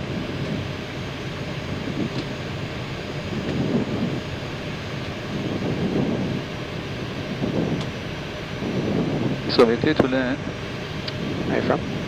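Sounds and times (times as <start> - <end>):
aircraft engines running: 0.0 - 12.0
airflow rushing in cockpit: 0.0 - 12.0.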